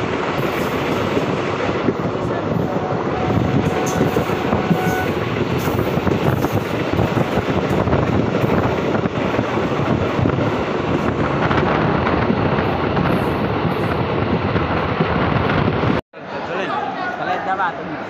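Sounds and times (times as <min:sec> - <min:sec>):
rushing air: 0:00.0 - 0:16.0
train wheels rumbling on rails: 0:00.0 - 0:16.0.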